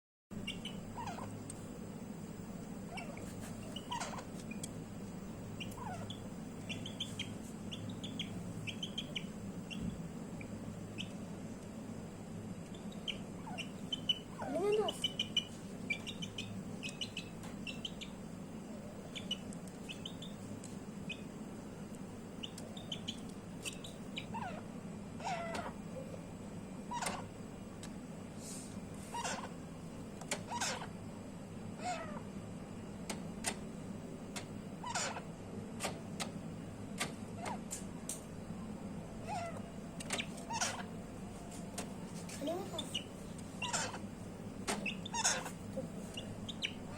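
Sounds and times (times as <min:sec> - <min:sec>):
steady low hum: 0:00.3 - 0:46.9.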